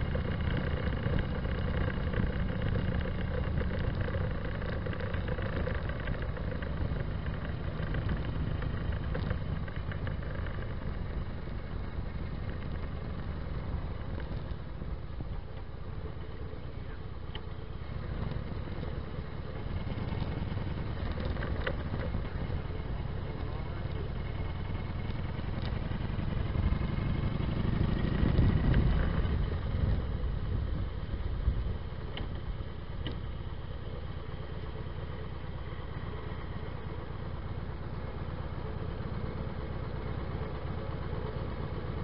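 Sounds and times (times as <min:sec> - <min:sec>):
motorcycle exhaust running: 0:00.0 - 0:42.0.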